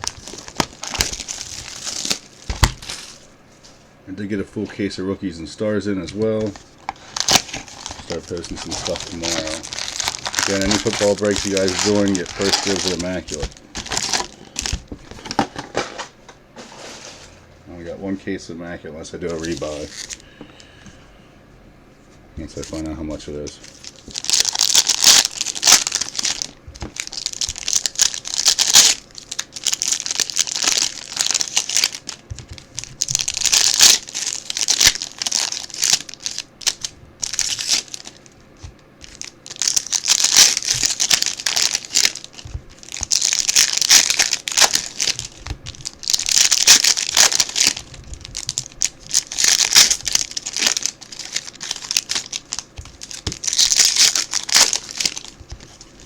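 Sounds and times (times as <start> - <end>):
plastic wrapping crinkling: 0.0 - 3.8, 6.0 - 16.0, 19.2 - 20.4, 22.4 - 56.0.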